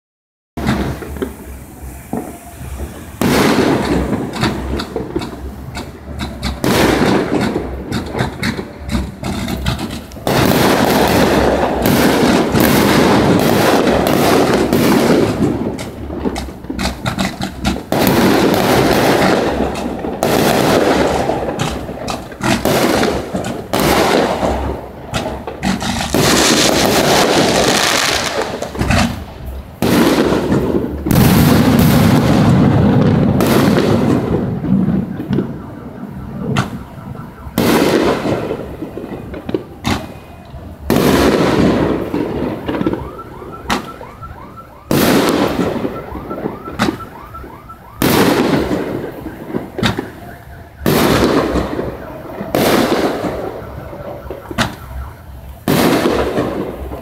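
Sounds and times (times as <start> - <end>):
fireworks bangs: 0.6 - 57.0.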